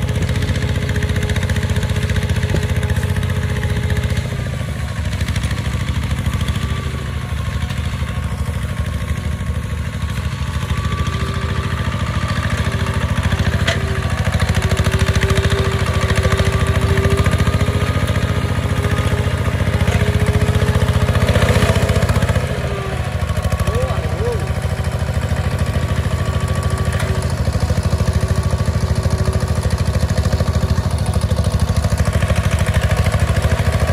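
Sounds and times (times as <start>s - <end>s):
diesel tractor engine chugging: 0.0s - 33.9s.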